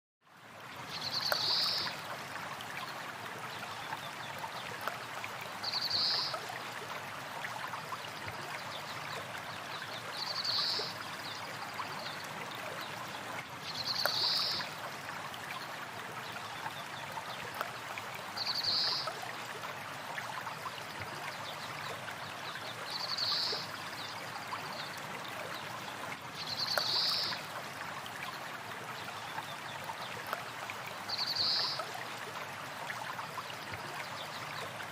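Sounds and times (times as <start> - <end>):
stream water running: 0.2 - 34.9.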